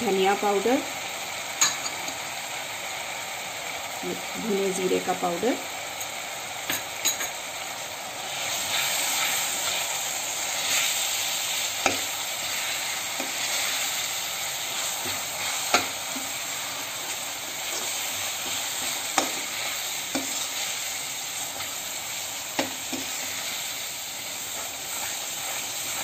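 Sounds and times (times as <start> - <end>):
spices sizzling in hot oil: 0.0 - 26.0.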